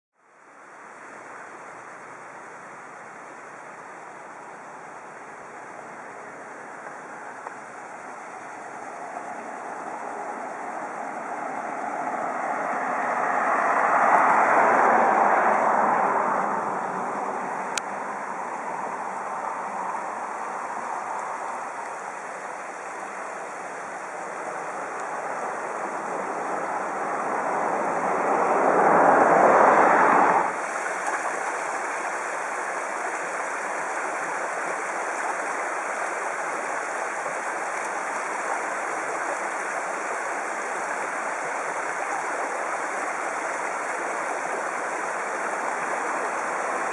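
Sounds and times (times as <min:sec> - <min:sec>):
creek rushing over stones: 0:00.3 - 0:46.9
vehicles passing on road: 0:05.6 - 0:46.9.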